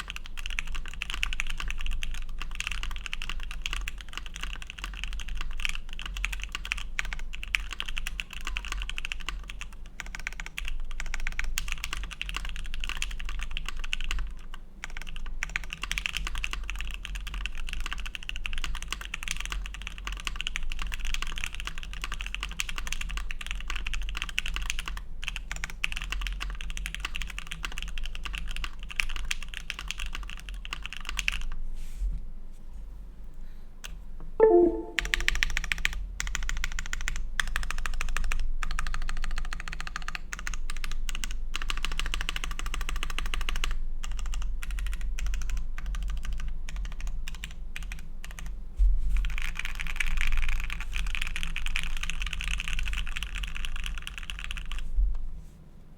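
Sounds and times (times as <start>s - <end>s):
fast typing on mechanical keyboard: 0.0s - 31.6s, 35.3s - 48.5s, 49.2s - 54.9s.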